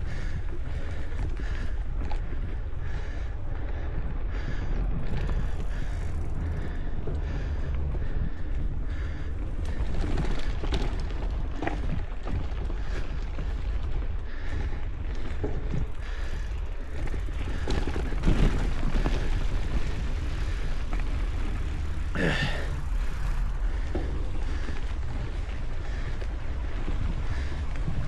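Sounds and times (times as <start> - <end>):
bike tyre rumble: 0.0 - 28.0
wind buffeting microphone: 0.0 - 28.0.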